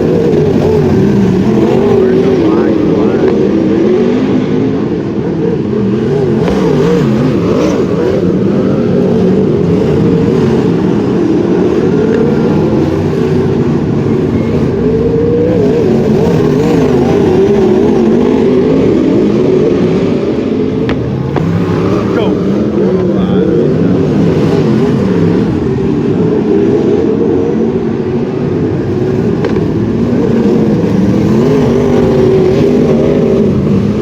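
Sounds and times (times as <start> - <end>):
race car engines racing: 0.0 - 34.0.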